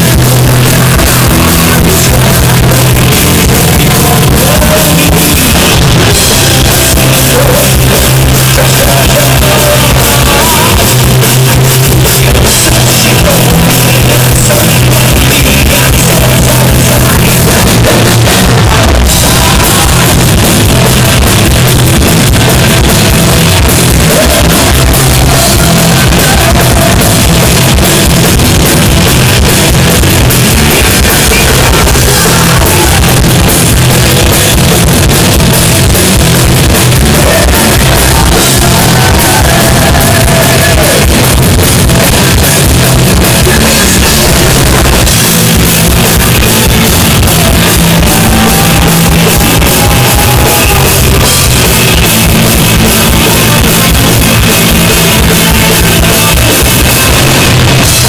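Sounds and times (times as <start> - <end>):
heavy metal band playing live: 0.0 - 58.0
person singing: 0.0 - 58.0.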